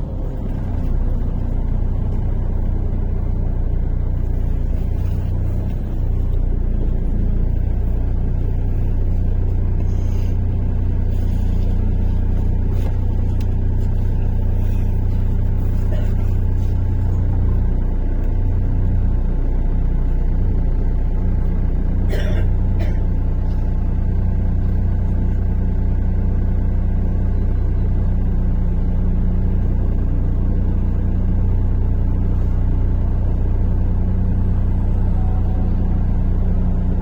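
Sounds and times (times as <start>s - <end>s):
bus engine drone and road rumble: 0.0s - 37.0s.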